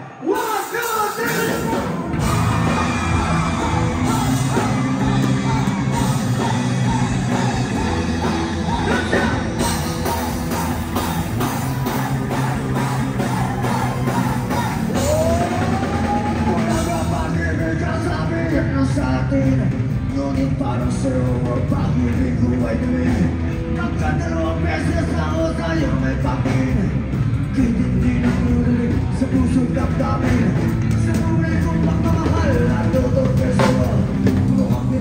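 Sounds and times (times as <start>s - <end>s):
live rock band playing: 0.0s - 35.0s
person singing: 1.3s - 35.0s.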